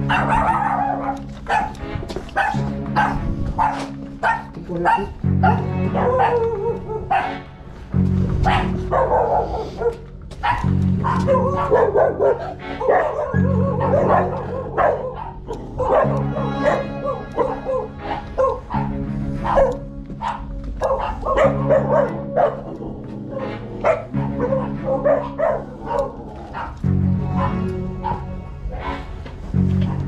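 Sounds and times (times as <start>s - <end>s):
dogs barking: 0.0s - 30.0s
music with bass line: 0.0s - 30.0s.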